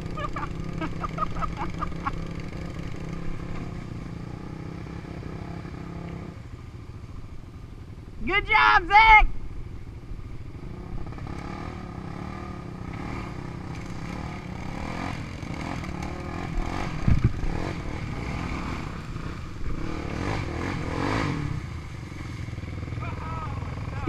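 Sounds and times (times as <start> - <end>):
atv and dirt bike engines revving: 0.0 - 24.0.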